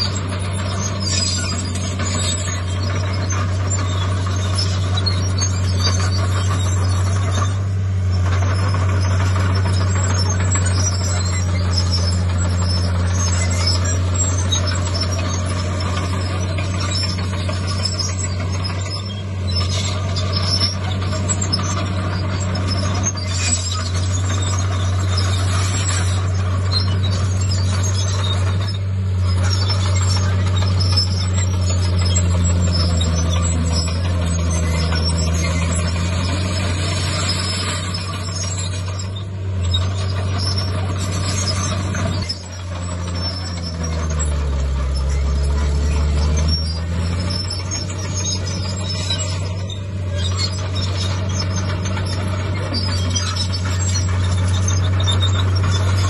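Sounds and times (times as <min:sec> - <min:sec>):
heavy diesel engine drone: 0:00.0 - 0:56.0.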